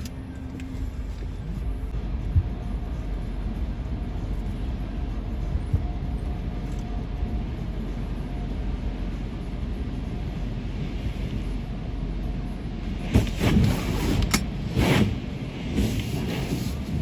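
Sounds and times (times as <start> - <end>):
car wash machinery rumble: 0.0 - 17.0.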